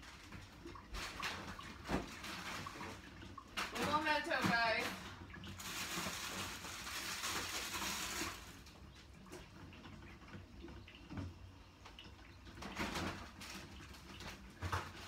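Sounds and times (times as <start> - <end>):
water running: 0.0 - 15.0.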